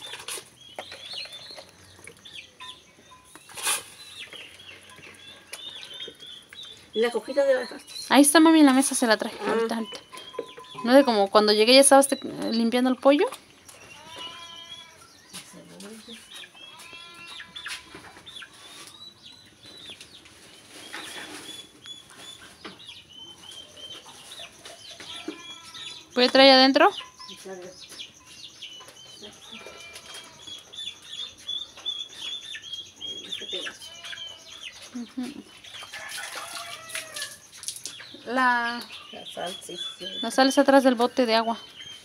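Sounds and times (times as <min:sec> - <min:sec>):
chickens clucking: 0:00.0 - 0:42.0.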